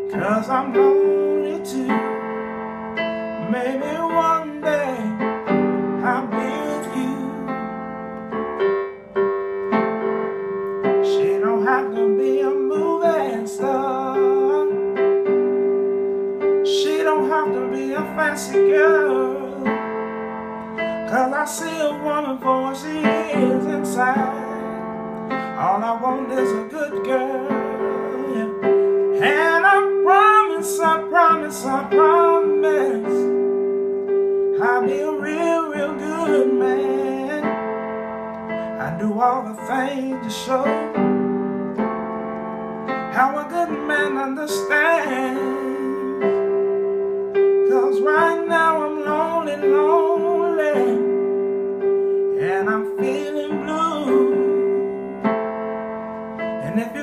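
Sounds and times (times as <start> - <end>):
man singing: 0.0 - 7.9, 10.8 - 15.4, 16.5 - 20.2, 20.8 - 33.5, 34.5 - 37.8, 38.6 - 41.2, 43.1 - 46.7, 47.6 - 51.3, 52.3 - 55.3, 56.4 - 57.0
electronic keyboard chords: 0.0 - 57.0.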